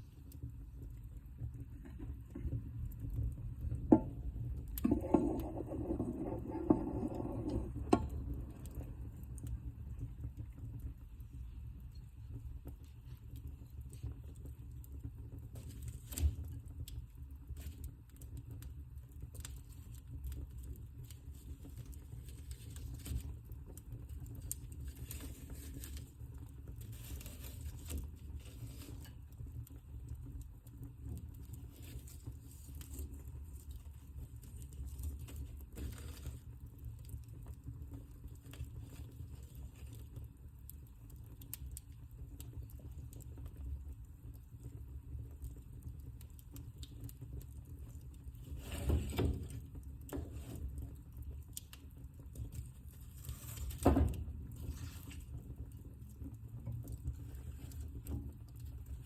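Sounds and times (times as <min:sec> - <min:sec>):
fire flames rumbling: 0:00.0 - 0:59.0
wood crackling and popping: 0:00.0 - 0:59.0.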